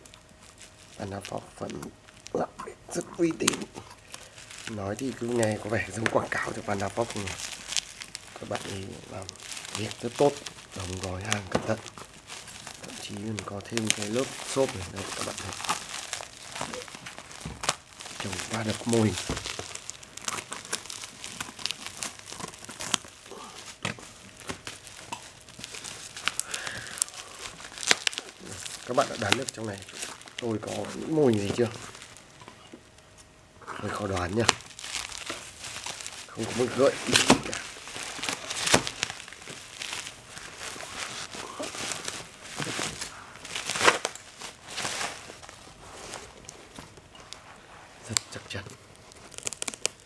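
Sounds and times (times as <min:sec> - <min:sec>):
bubble wrap crinkling: 0:00.0 - 0:50.0.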